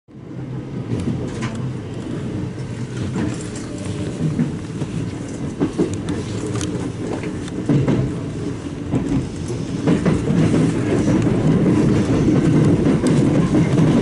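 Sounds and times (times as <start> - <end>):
train wheels rumbling on rail: 0.1 - 14.0
wheels clicking over rail joints: 0.8 - 14.0.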